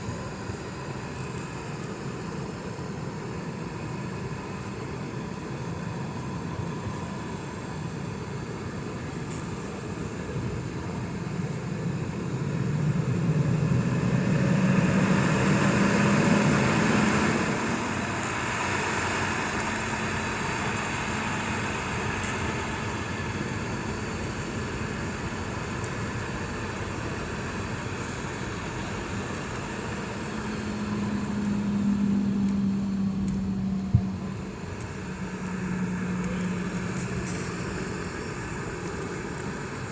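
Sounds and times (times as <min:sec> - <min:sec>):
jet engines humming: 0:00.0 - 0:39.9.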